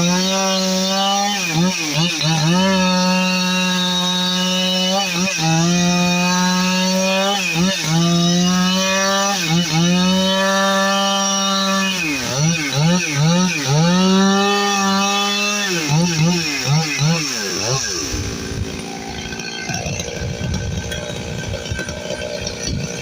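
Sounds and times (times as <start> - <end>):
chainsaw running at high revs: 0.0 - 23.0.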